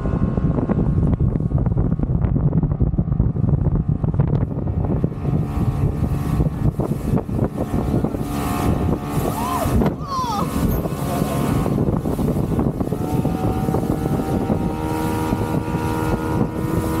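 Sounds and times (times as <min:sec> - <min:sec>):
motorboat engine running: 0:00.0 - 0:17.0
wind noise on microphone: 0:00.0 - 0:17.0.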